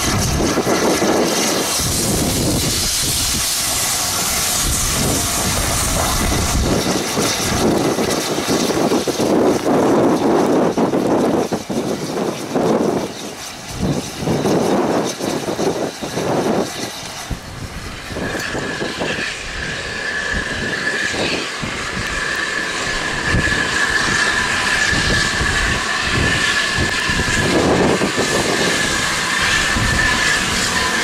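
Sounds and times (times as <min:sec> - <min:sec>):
gusty wind noise: 0:00.0 - 0:31.0
steam train approaching: 0:00.0 - 0:31.0.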